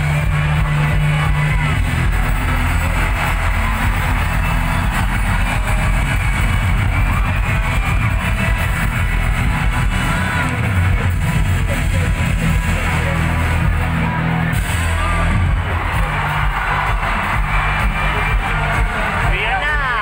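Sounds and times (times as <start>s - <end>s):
live rock band playing: 0.0s - 19.3s.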